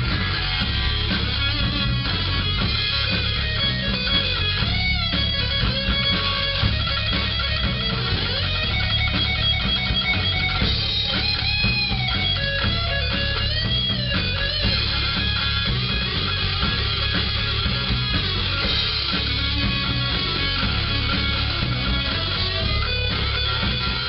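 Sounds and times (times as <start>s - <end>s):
rock music with electric guitar: 0.0s - 24.0s.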